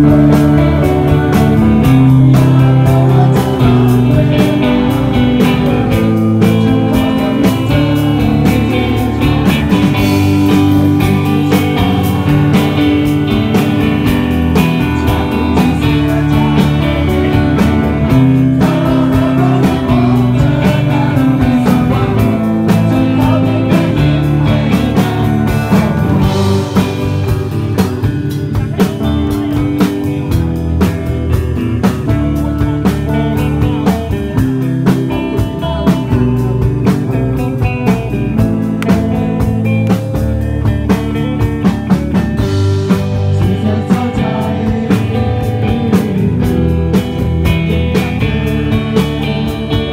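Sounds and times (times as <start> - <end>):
drum kit steady beat: 0.0 - 49.9
electric guitars: 0.0 - 49.9.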